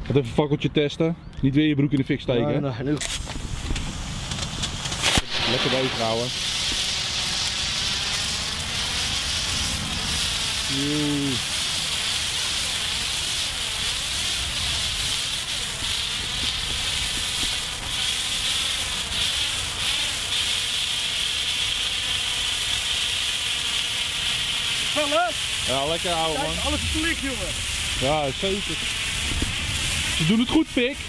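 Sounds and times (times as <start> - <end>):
signal flare hissing: 3.0 - 31.0.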